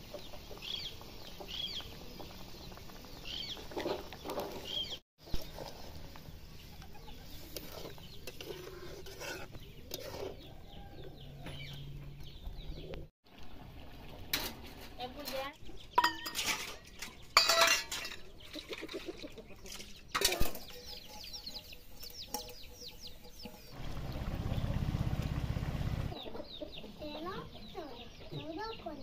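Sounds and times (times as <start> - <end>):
chickens clucking: 0.0 - 13.0, 18.1 - 29.0.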